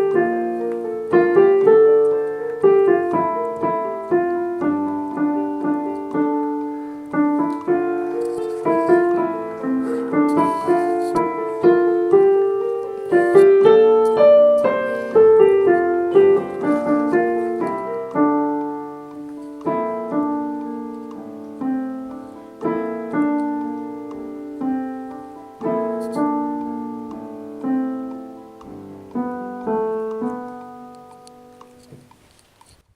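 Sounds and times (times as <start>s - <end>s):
piano playing slow chords: 0.0s - 32.2s.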